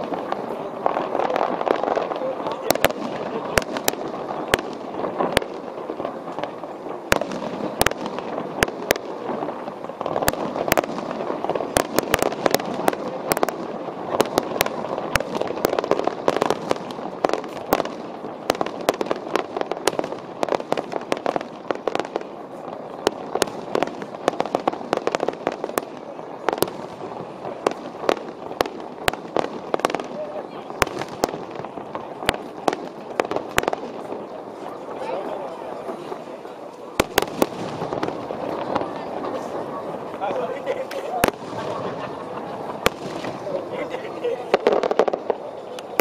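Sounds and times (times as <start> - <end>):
fireworks bangs and crackles: 0.0 - 46.0
steady background noise: 0.0 - 46.0.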